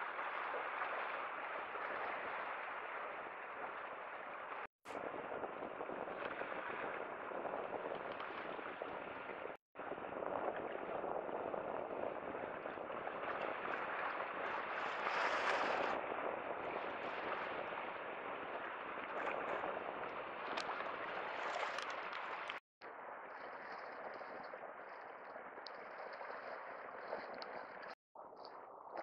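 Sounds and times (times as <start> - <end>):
waves washing against breakwater: 0.0 - 28.4.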